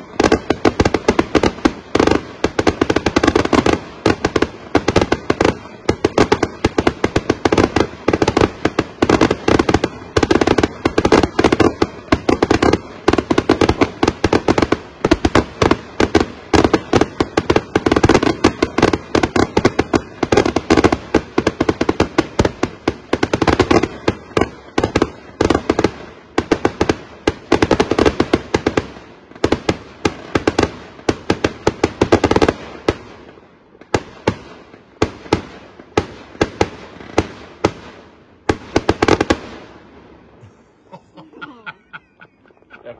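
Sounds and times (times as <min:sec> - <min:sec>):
firework bangs: 0:00.0 - 0:39.8.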